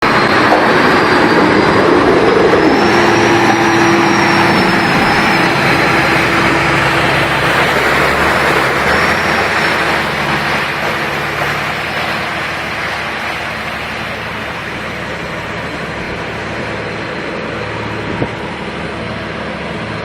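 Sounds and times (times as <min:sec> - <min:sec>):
loud rushing noise: 0:00.0 - 0:20.0
truck engine droning: 0:00.0 - 0:20.0.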